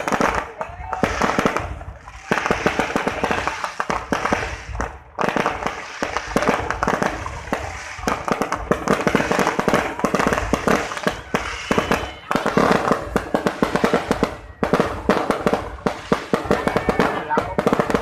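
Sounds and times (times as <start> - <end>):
fireworks cracking and popping: 0.0 - 18.0.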